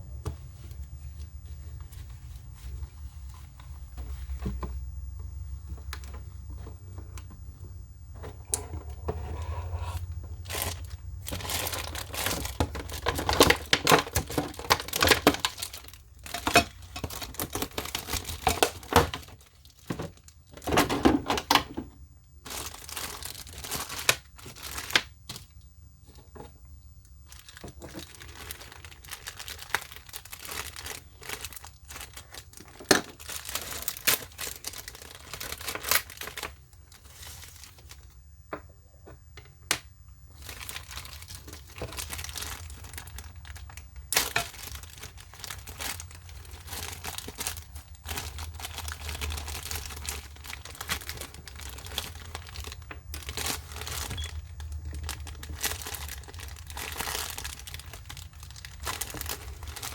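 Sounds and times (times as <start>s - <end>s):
packaging crinkling: 8.2s - 21.7s, 22.4s - 26.5s, 27.2s - 38.2s, 40.3s - 59.9s.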